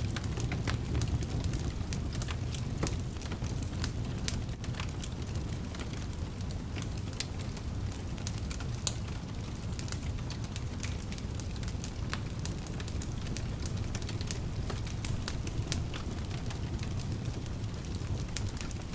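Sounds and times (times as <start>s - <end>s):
wood fire crackling and popping: 0.0s - 18.9s.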